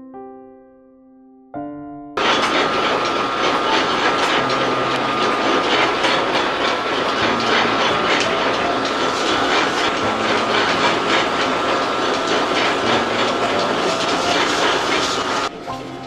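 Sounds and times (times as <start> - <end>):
piano notes: 0.0 - 16.0
machinery rattling and whining: 2.2 - 16.0.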